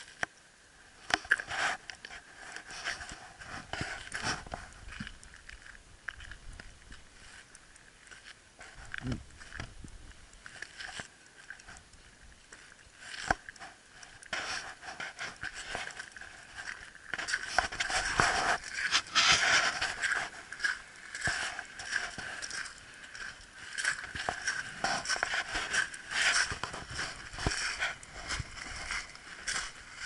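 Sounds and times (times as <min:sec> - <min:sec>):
gravel crunching and scraping: 0:00.0 - 0:30.0.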